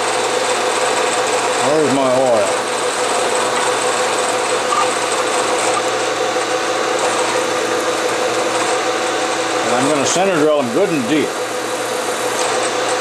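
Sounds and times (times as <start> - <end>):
milling machine hum: 0.0 - 13.0.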